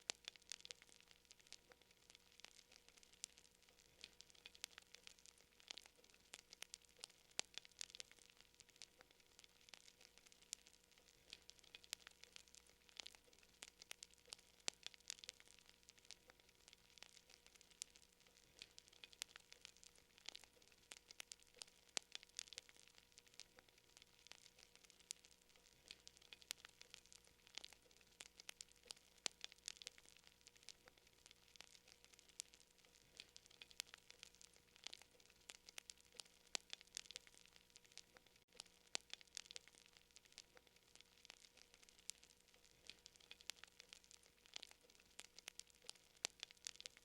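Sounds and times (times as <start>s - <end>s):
faint hiss: 0.0s - 47.0s
fire crackling: 0.0s - 47.0s.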